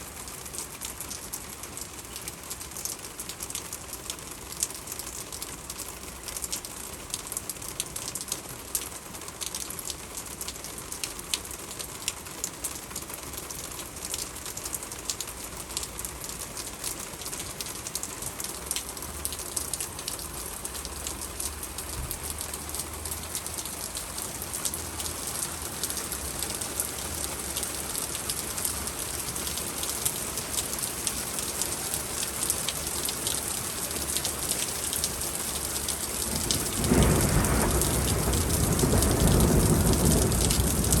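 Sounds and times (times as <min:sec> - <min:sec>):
rain pattering on surfaces: 0:00.0 - 0:41.0.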